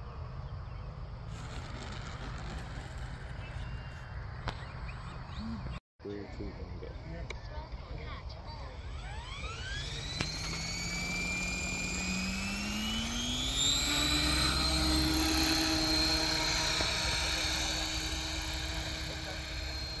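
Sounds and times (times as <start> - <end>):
rc helicopter motor whining: 1.1 - 4.8, 7.6 - 20.0.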